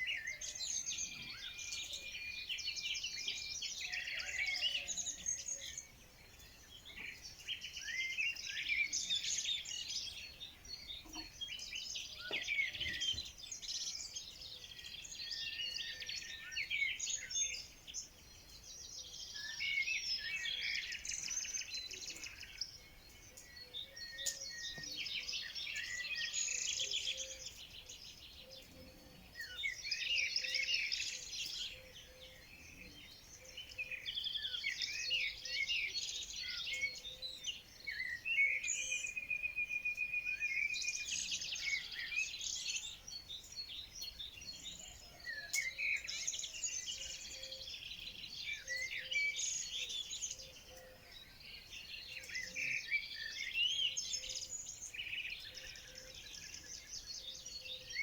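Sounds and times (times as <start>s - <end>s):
bird steady trill: 0.0s - 58.0s
songbirds chirping and trilling: 0.0s - 58.0s.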